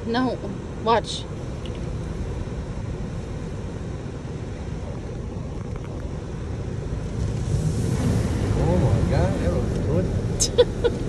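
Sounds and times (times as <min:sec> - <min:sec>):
car wash rumble: 0:00.0 - 0:11.0.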